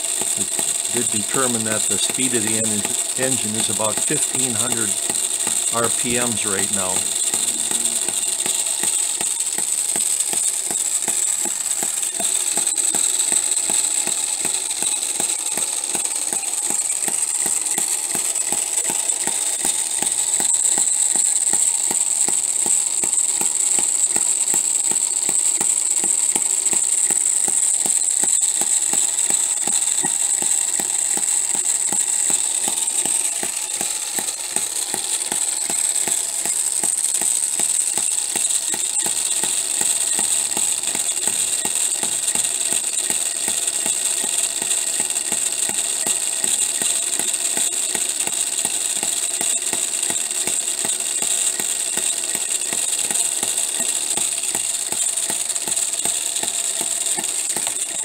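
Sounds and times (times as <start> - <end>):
noisy gears: 0.0 - 58.0
small engine running: 0.0 - 58.0.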